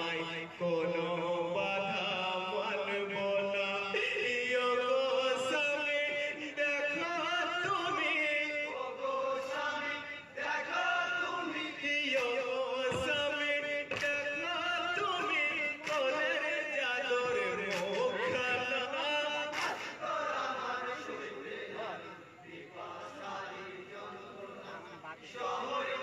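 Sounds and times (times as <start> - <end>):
men chanting an elegy: 0.0 - 26.0.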